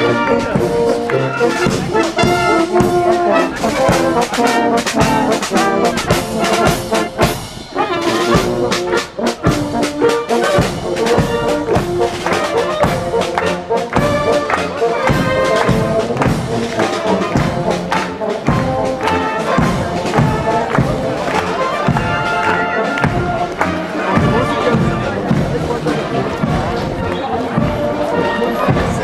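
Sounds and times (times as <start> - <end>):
brass band playing: 0.0 - 29.0.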